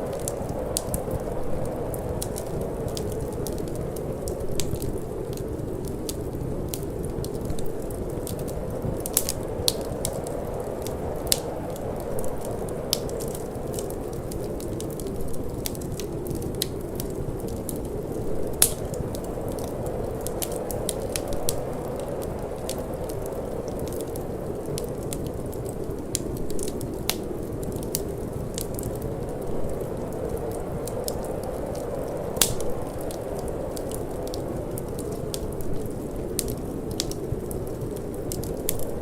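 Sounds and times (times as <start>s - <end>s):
low rush of wind: 0.0s - 39.0s
wood fire crackling: 0.0s - 39.0s.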